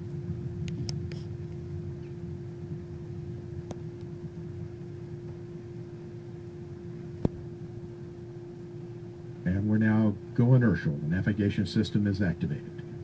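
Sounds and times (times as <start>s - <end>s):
faint constant tone: 0.0s - 13.0s
steady low hum: 0.0s - 13.0s.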